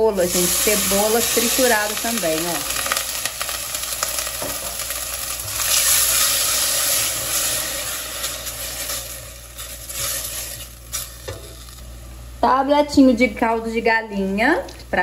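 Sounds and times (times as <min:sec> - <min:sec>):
onion and garlic sizzling in oil: 0:00.0 - 0:12.4.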